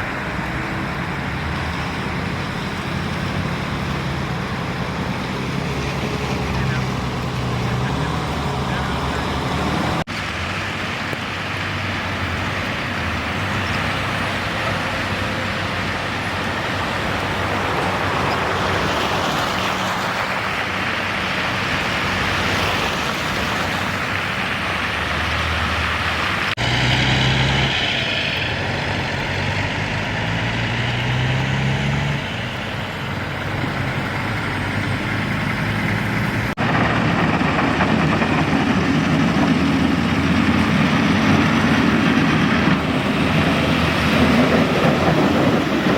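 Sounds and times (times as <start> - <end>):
idling truck and car engines: 0.0 - 45.9.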